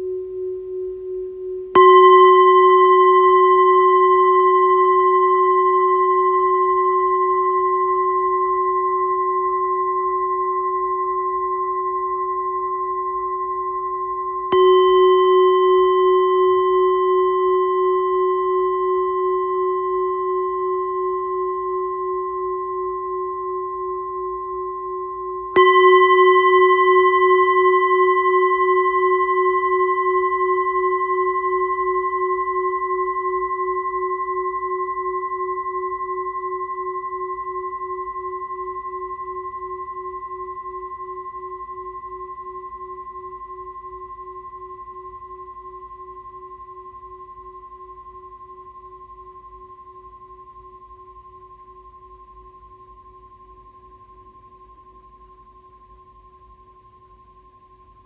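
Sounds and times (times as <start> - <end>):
singing bowl ringing: 0.0 - 58.0.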